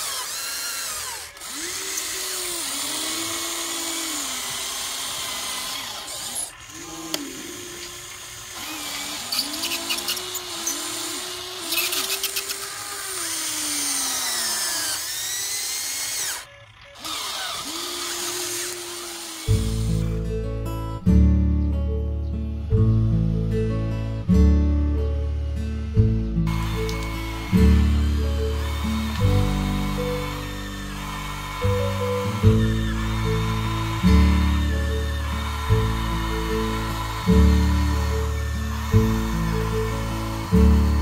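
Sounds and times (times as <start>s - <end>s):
small electric motors whining: 0.0s - 20.2s, 25.5s - 41.0s.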